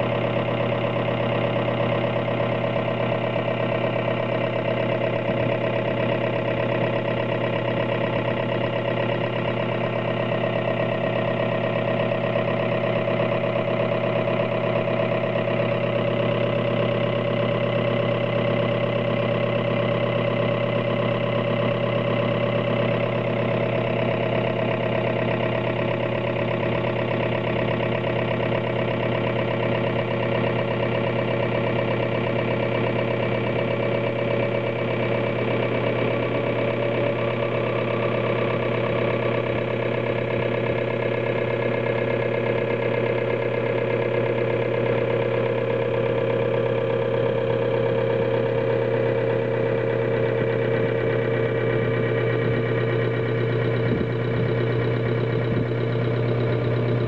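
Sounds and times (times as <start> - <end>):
test bench motor and pump hum: 0.0 - 57.0.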